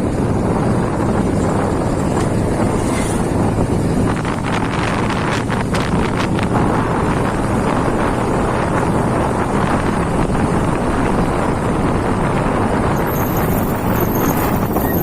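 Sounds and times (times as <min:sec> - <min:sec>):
moving motorcycle rush: 0:00.0 - 0:15.0
wind buffeting microphone: 0:00.0 - 0:15.0.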